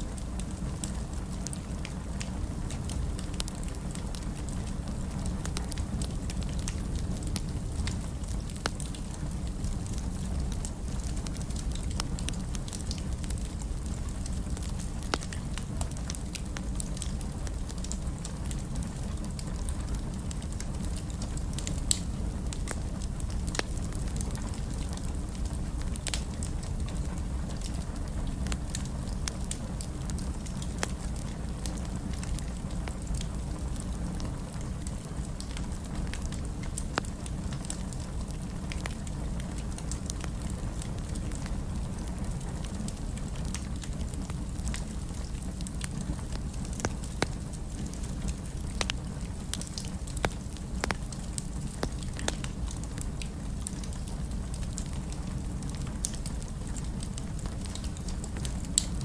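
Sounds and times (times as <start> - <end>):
fire crackling and popping: 0.0 - 59.0
low rumble of flame: 0.0 - 59.0.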